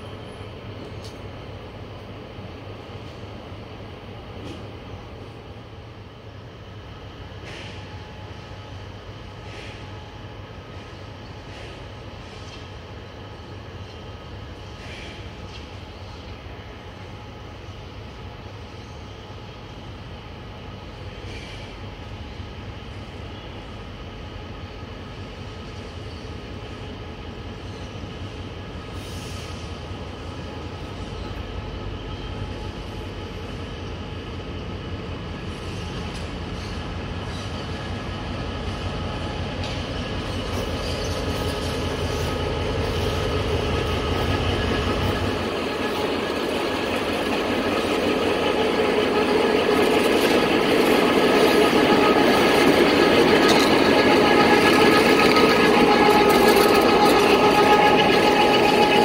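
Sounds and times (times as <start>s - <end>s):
diesel locomotive engine: 0.0s - 59.0s.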